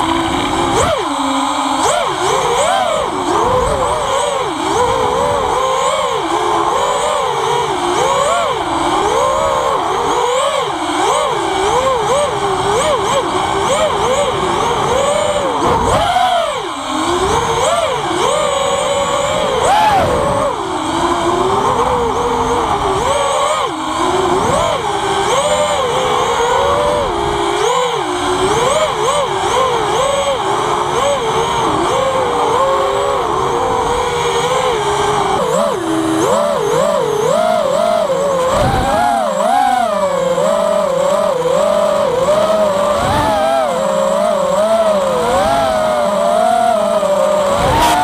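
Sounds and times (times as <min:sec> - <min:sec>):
drone motors whining: 0:00.0 - 0:48.0.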